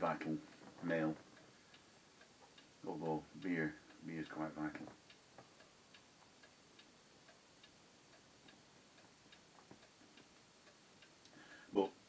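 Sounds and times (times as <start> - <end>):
faint steady ticking: 0.0 - 12.0.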